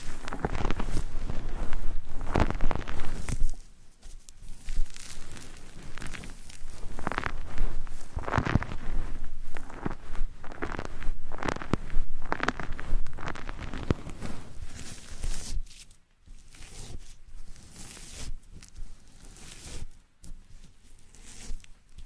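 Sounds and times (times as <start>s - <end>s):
close-miked crackling and rustling: 0.0s - 22.0s.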